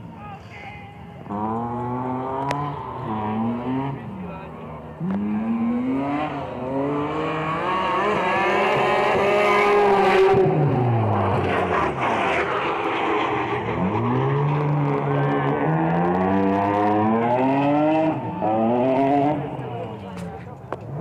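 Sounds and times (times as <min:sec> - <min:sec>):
car engines revving: 0:01.0 - 0:21.0.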